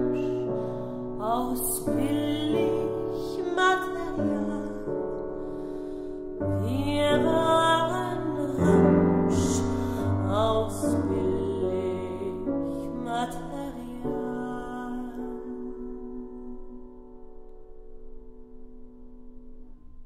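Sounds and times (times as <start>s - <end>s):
soprano singing: 0.0s - 17.5s
piano chords: 0.0s - 20.0s.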